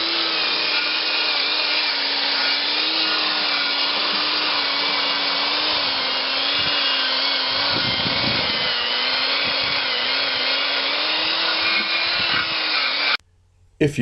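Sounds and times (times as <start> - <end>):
power tool wire brush on metal: 0.0 - 13.2.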